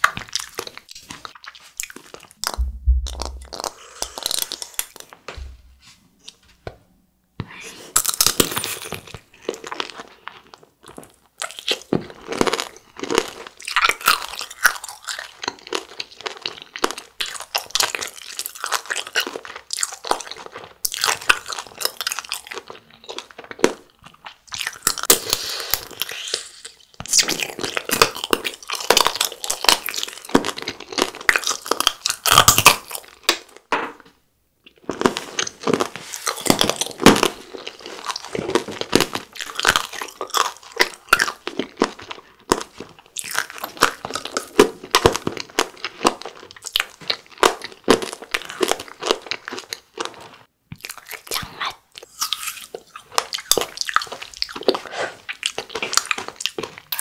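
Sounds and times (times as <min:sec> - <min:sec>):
crunching and chewing: 0:00.0 - 0:05.2, 0:07.8 - 0:33.7, 0:34.7 - 0:57.0.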